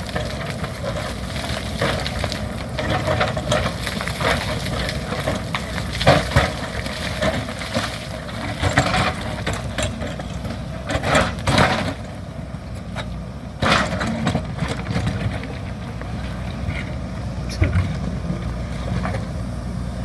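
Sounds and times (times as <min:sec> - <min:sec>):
diesel engine running: 0:00.0 - 0:20.0
loud rough engine noises: 0:00.0 - 0:20.0.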